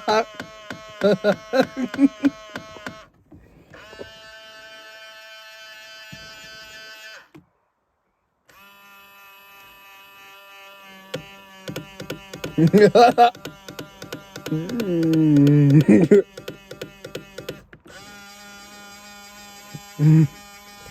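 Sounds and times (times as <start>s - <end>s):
mirror motor whining: 0.0s - 7.4s, 8.5s - 20.9s.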